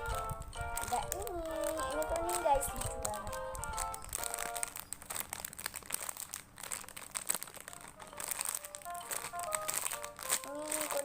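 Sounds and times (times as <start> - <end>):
squishy toy crinkling: 0.0 - 11.0.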